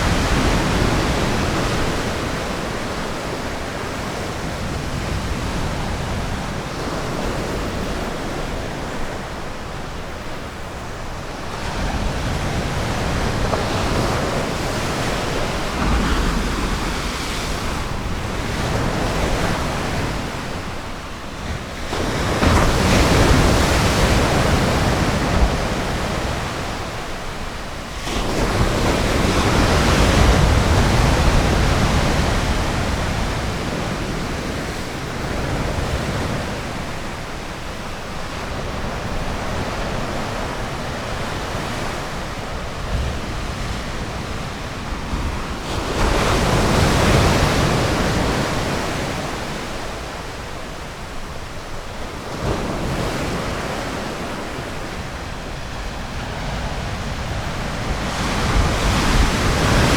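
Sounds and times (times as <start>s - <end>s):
waves breaking on a beach: 0.0s - 59.9s
wind on the microphone: 0.0s - 59.9s.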